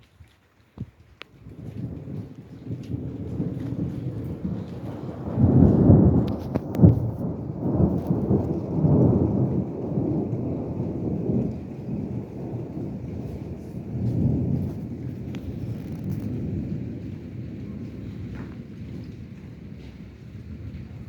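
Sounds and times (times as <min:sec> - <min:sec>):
rain falling: 0:00.0 - 0:21.0
thunder rumbling: 0:01.3 - 0:21.0.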